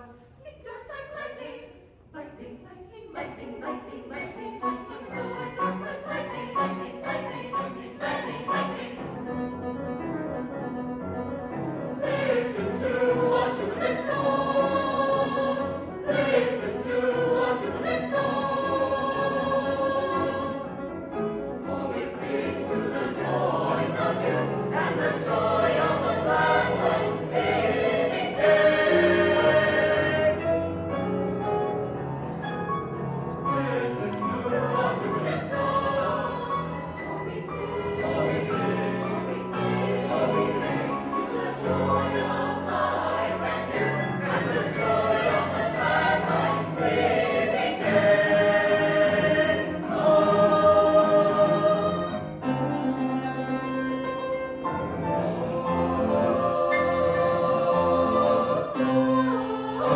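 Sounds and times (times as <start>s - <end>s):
choir singing sustained chords: 2.8s - 32.1s, 33.4s - 59.9s.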